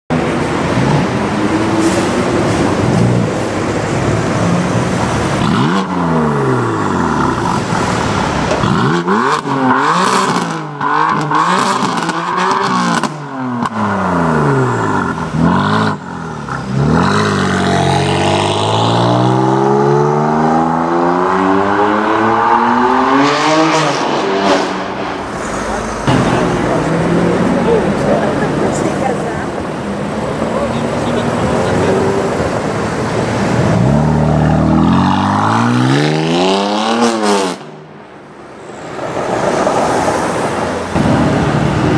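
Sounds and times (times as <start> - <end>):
car engine revving: 0.6 - 37.9.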